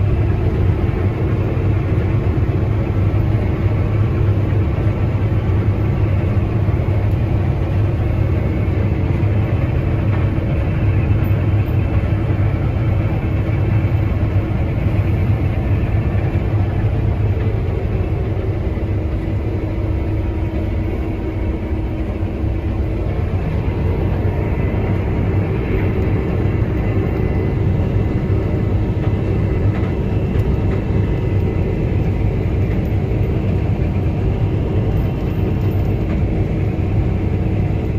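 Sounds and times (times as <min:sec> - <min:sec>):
combine harvester engine drone: 0:00.0 - 0:37.9.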